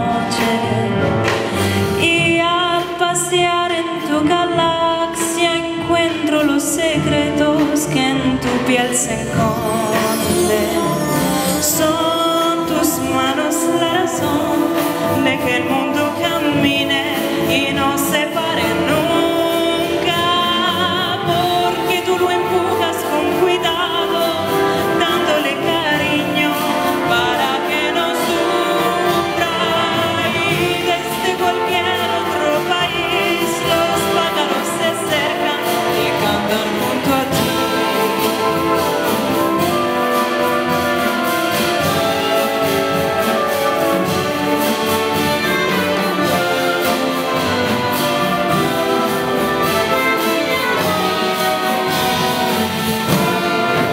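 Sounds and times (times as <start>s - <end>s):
big band playing: 0.0s - 53.9s
woman singing: 0.0s - 53.9s.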